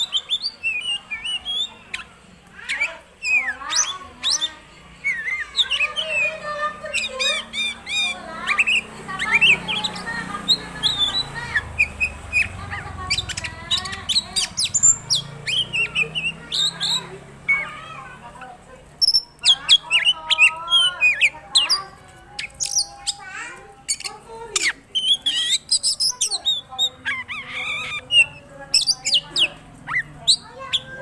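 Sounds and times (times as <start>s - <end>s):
bird singing varied song: 0.0s - 31.0s.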